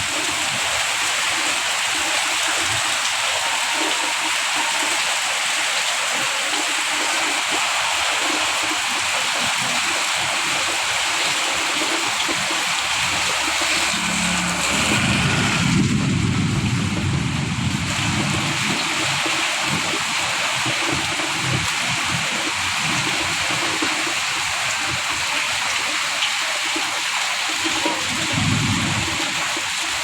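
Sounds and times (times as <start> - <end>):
heavy rain in strong wind: 0.0 - 30.0.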